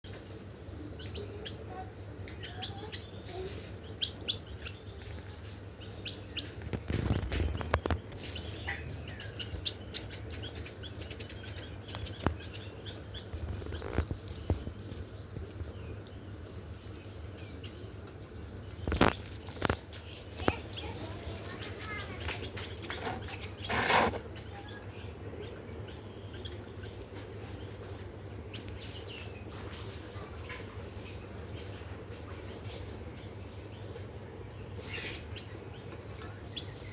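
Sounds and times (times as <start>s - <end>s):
birds chirping: 0.1s - 36.9s.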